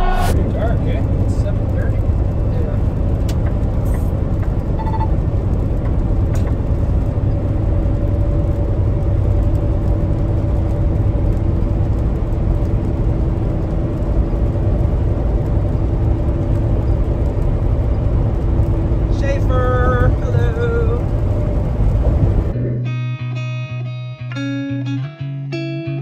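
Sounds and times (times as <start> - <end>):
truck engine and road drone: 0.0 - 25.0.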